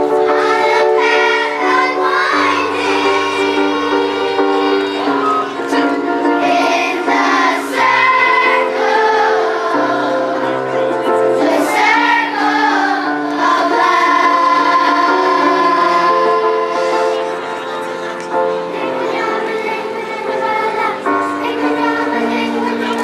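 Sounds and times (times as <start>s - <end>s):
children's choir singing: 0.0s - 23.0s
held instrumental accompaniment: 0.0s - 23.0s.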